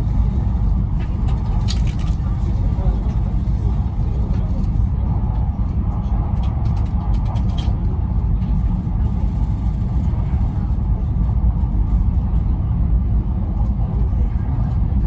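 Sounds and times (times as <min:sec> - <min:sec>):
high-speed train rumble: 0:00.0 - 0:15.0.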